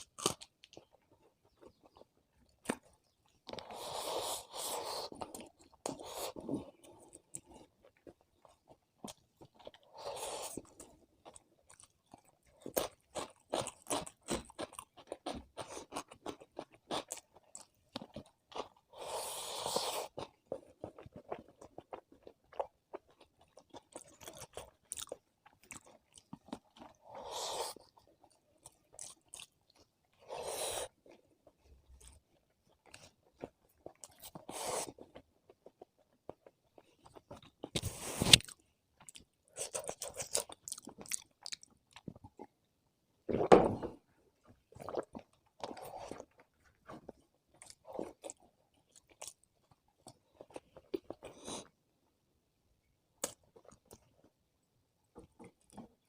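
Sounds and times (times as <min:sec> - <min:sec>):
person chewing: 0:00.0 - 0:42.6, 0:44.5 - 0:51.8.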